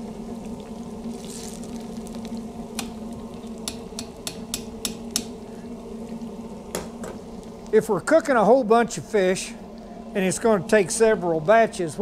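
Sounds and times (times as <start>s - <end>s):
oil frying in deep fryer: 0.0s - 12.0s
steady low hum: 0.0s - 12.0s.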